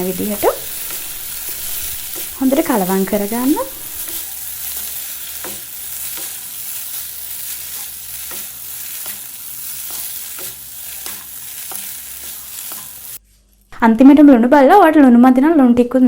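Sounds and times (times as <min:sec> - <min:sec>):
frying sizzle in a pan: 0:00.0 - 0:13.2.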